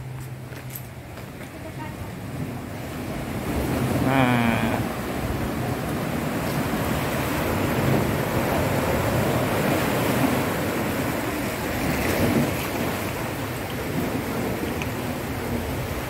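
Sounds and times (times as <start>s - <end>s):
surf washing over rocks: 1.0s - 16.0s.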